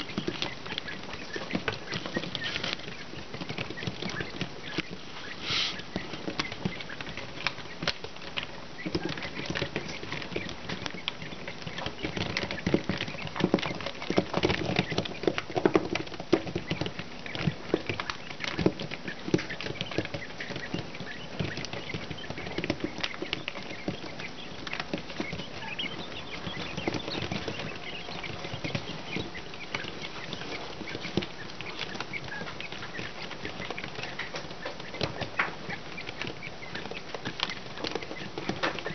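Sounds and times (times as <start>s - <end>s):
chicks pecking on mesh: 0.0s - 38.9s
chicks peeping softly: 0.0s - 38.9s.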